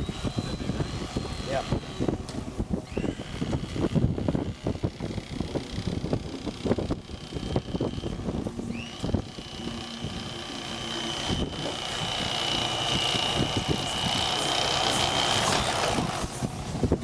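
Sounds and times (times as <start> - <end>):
electric knife whining: 0.0 - 16.7.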